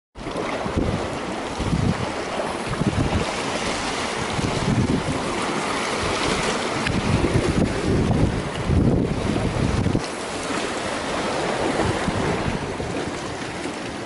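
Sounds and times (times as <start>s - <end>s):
wind gusting on microphone: 0.2s - 13.7s
sea waves washing: 0.2s - 14.0s.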